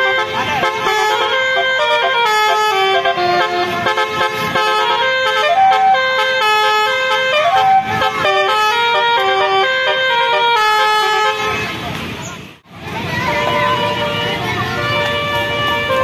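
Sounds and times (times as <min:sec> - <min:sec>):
musical car horn playing tune: 0:00.0 - 0:11.7, 0:13.2 - 0:16.0.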